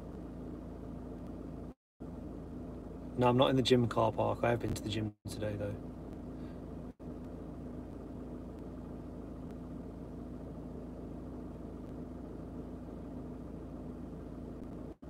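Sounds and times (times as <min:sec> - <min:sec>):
faint constant tone: 0:00.0 - 0:15.0
low mechanical hum: 0:00.0 - 0:15.0.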